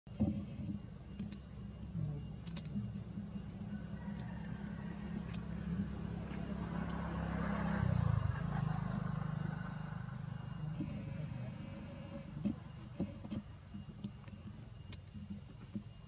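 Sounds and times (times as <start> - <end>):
vehicle engine hum: 0.0 - 16.0
road noise of passing vehicle: 1.7 - 15.0.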